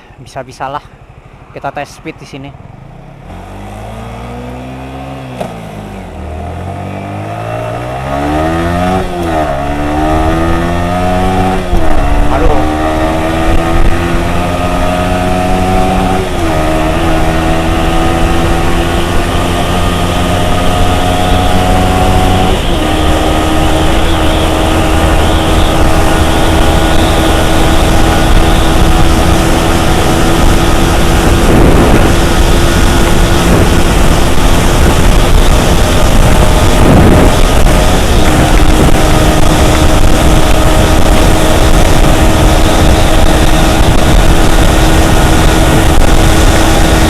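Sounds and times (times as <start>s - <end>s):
motorcycle engine accelerating: 2.5s - 47.0s
wind rushing over microphone: 7.5s - 47.0s.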